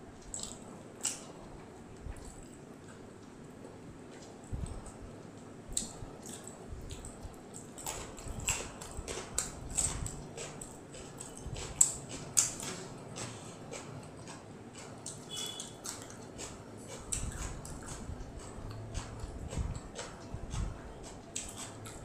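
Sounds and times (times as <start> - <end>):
wet chewing and lip smacks: 0.2 - 1.4, 2.0 - 3.4, 5.7 - 22.0.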